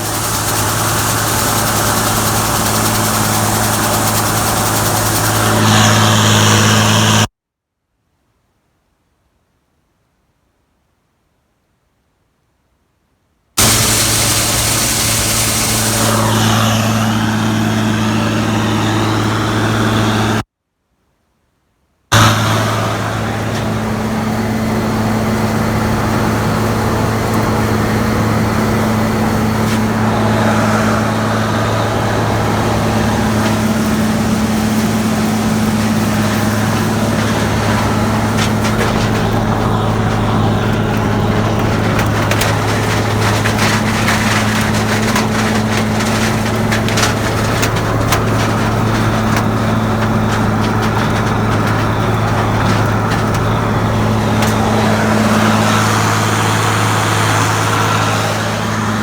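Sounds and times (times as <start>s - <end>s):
combine engine drone: 0.0s - 7.3s, 13.6s - 20.4s, 22.1s - 59.0s
crackling and rattling: 0.0s - 7.3s, 13.6s - 20.4s, 22.1s - 59.0s.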